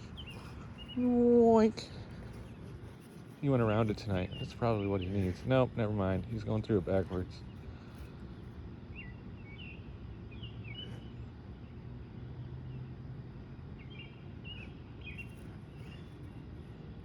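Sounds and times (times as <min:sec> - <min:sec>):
bird chirping: 0:00.0 - 0:08.0, 0:08.9 - 0:11.8, 0:13.8 - 0:16.8
low background rumble: 0:00.0 - 0:17.0.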